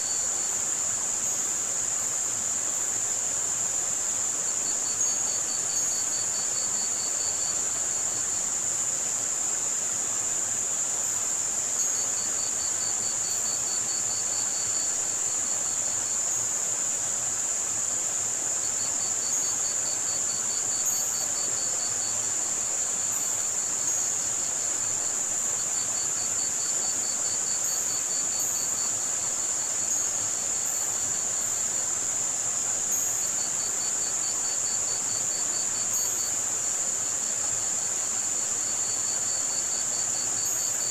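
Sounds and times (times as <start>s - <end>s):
crickets trilling: 0.0s - 40.9s
high-pitched white noise hiss: 0.0s - 40.9s.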